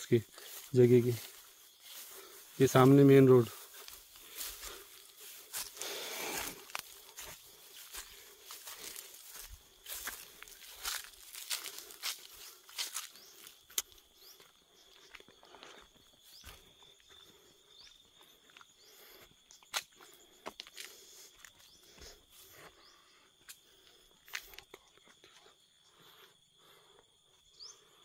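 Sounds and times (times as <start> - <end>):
footsteps crunching through dry grass: 0.0 - 24.7.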